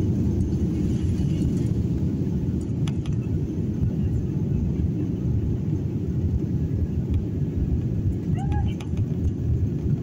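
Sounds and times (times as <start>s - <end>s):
jet engines rumbling in cabin: 0.0s - 10.0s.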